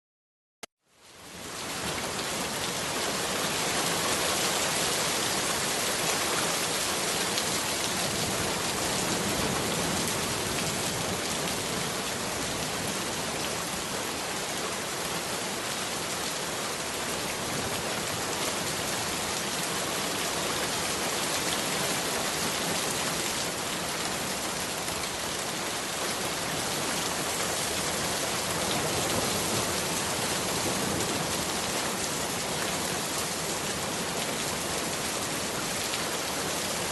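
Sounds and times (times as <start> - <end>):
heavy rain falling: 1.2 - 36.9.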